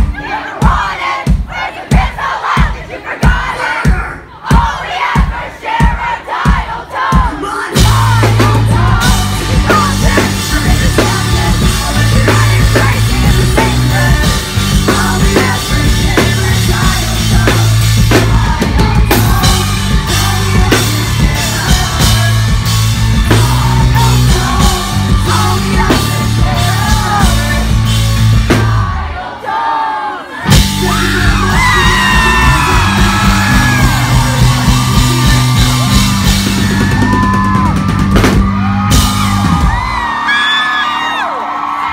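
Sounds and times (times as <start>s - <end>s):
rock band playing live: 0.0s - 29.4s, 30.3s - 41.9s
yelled sung lead vocal: 0.0s - 41.9s.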